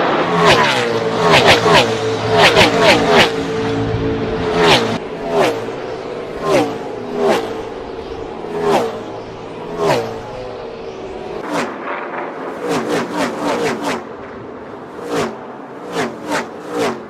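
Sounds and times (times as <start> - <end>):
race cars passing by: 0.0 - 17.0
steady engine drone: 0.0 - 17.0.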